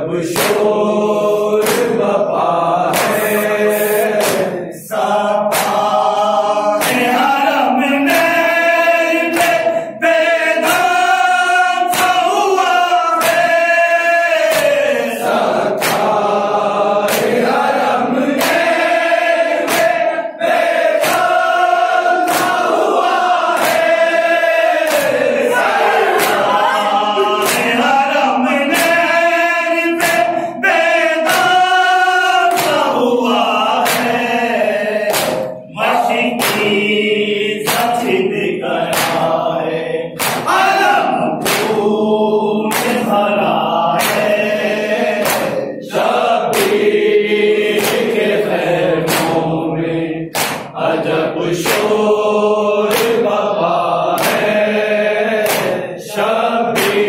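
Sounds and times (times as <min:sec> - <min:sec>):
men chanting in unison: 0:00.0 - 0:57.0
chest-beating slaps: 0:00.2 - 0:29.2, 0:29.8 - 0:37.0, 0:37.6 - 0:42.0, 0:42.6 - 0:49.6, 0:50.3 - 0:52.2, 0:52.8 - 0:53.4, 0:54.1 - 0:55.9, 0:56.7 - 0:57.0.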